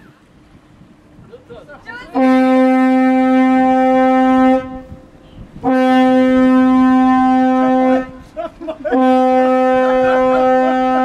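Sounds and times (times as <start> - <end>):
ship's horn blasts: 1.8 - 11.0.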